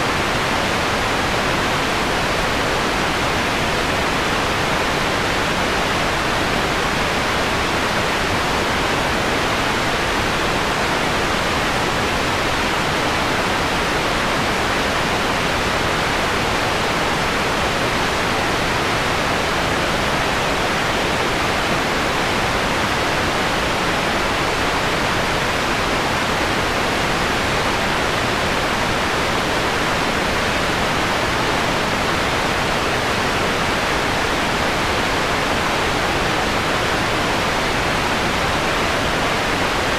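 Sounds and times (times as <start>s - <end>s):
filtered white noise hiss: 0.0s - 39.9s.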